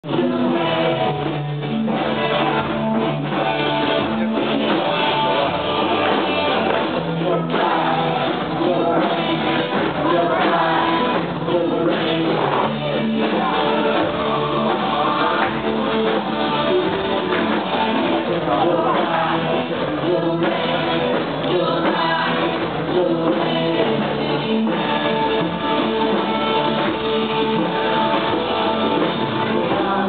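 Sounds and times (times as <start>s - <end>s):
electric guitar: 0.0s - 30.0s
keyboard: 0.0s - 30.0s
person singing: 0.0s - 30.0s.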